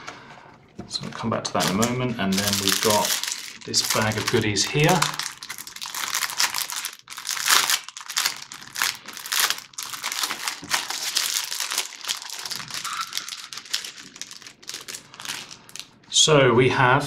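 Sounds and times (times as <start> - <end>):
plastic bag crinkling: 1.0 - 16.0.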